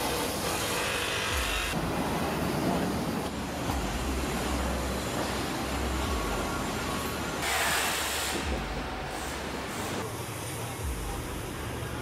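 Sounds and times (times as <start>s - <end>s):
machinery rumble and hum: 1.3s - 7.4s, 8.4s - 12.0s.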